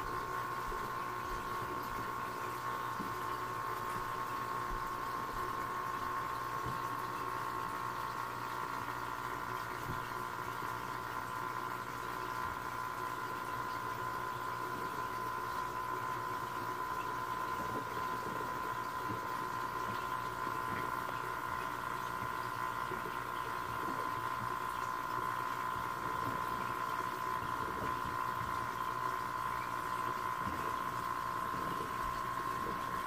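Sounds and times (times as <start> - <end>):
aquarium pump humming: 0.0 - 33.0.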